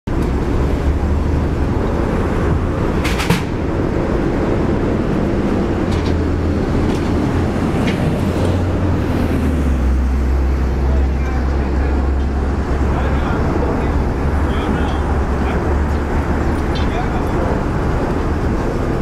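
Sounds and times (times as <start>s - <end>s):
truck engine idling: 0.1s - 19.0s.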